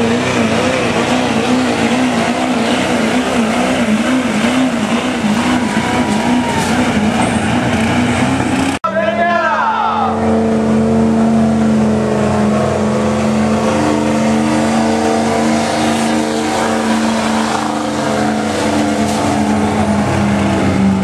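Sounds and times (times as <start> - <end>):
pickup truck engine running: 0.0 - 9.1, 10.1 - 21.0.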